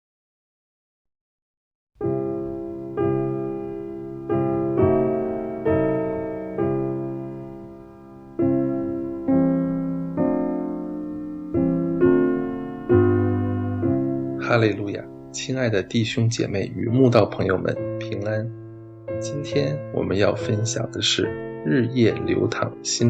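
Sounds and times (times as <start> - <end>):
gentle piano chords: 2.0 - 23.0.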